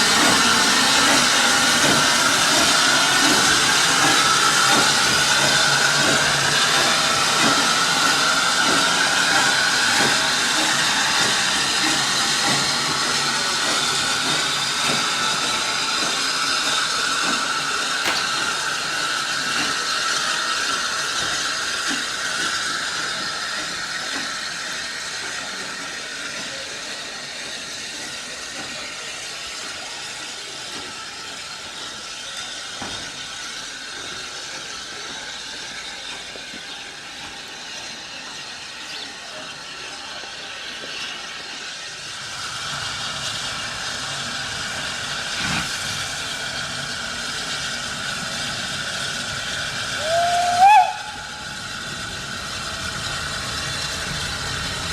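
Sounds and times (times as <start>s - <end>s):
steam hiss: 0.0s - 54.9s
steam train running: 0.0s - 54.9s.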